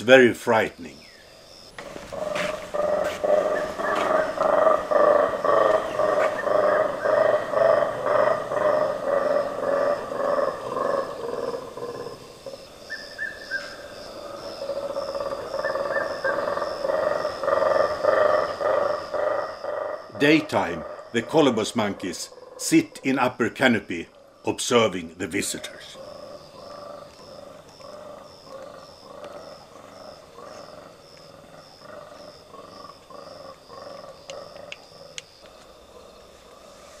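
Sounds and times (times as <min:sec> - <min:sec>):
monkeys roaring in chorus: 0:01.8 - 0:23.0, 0:25.6 - 0:35.2.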